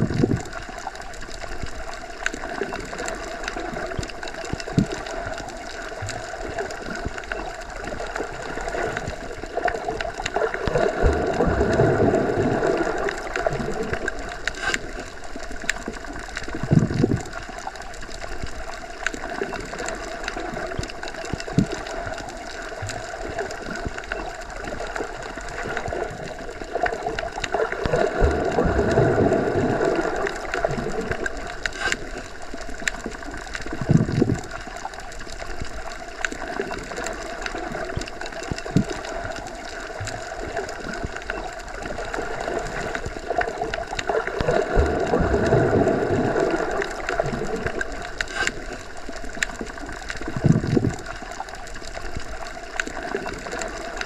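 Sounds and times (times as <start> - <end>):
muffled underwater rush: 0.0 - 54.0.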